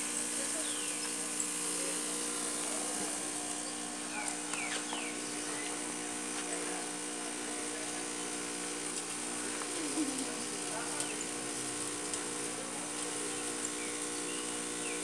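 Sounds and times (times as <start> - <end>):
cotton candy machine humming: 0.0 - 15.0.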